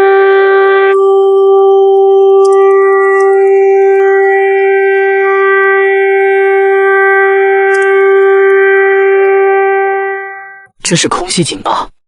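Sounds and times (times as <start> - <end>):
steady air-raid siren: 0.0 - 10.7.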